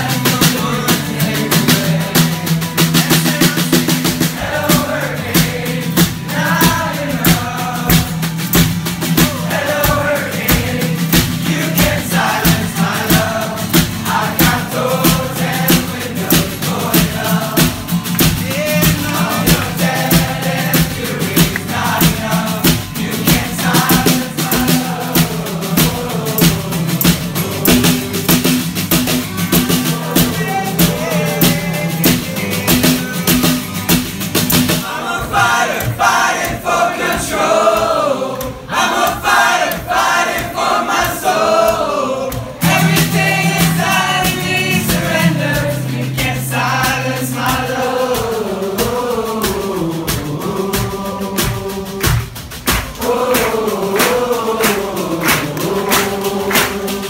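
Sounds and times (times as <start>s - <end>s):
acoustic guitar: 0.0s - 57.0s
group singing in unison: 0.0s - 57.0s
steady drumbeat: 0.0s - 57.0s.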